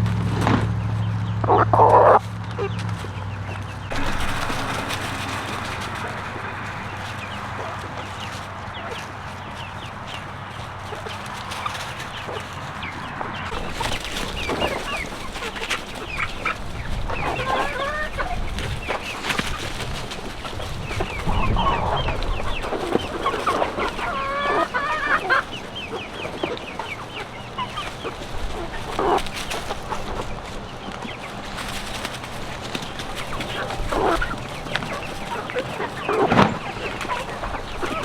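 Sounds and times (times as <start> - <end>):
chickens clucking: 0.0 - 38.0
drawn-out hen calls: 0.0 - 38.0.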